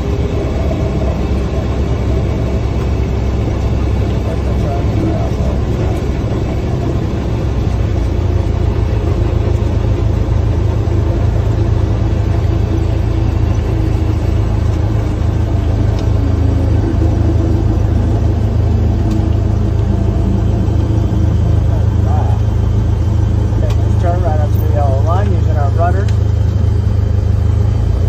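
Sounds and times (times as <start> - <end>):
airplane engine droning: 0.0 - 28.0.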